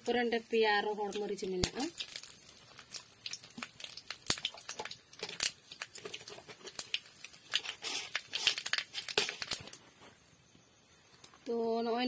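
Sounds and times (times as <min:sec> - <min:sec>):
chillies sizzling in oil: 0:00.0 - 0:09.9.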